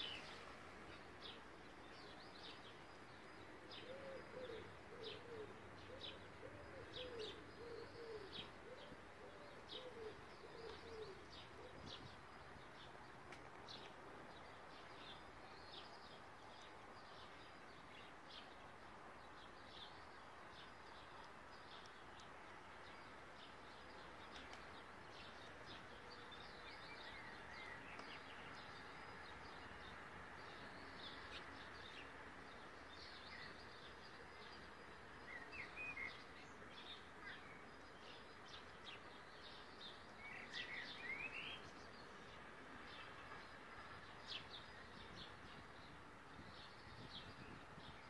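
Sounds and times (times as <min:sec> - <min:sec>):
faint background hiss: 0:00.0 - 0:48.0.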